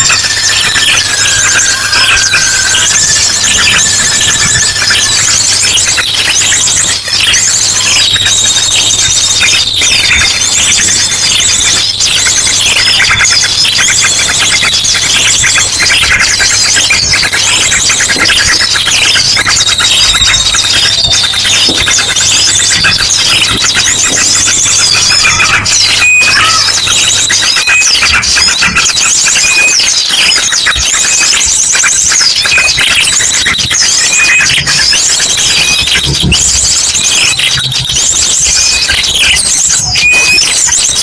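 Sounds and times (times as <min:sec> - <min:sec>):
chorus of small birds chirping: 0:00.0 - 0:41.0
drongo calls: 0:00.0 - 0:41.0.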